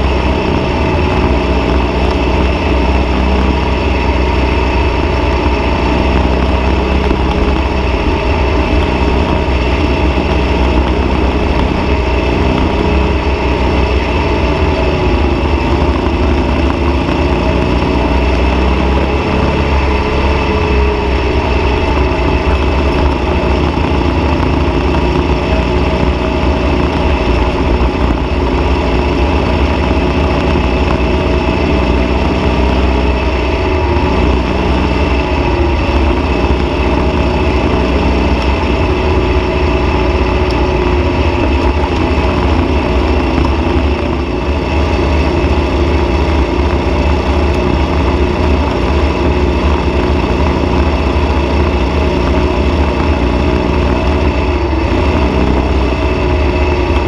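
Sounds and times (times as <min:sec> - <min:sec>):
dune buggy engine running: 0:00.0 - 0:57.0.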